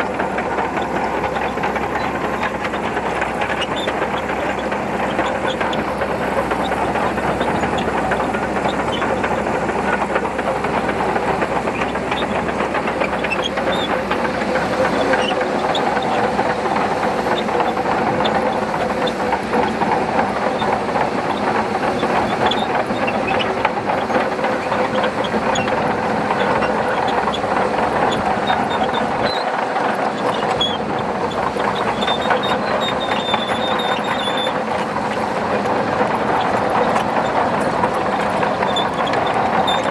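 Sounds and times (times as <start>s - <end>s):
bulldozer diesel engine running: 0.0s - 39.9s
steel tracks clattering: 0.0s - 39.9s.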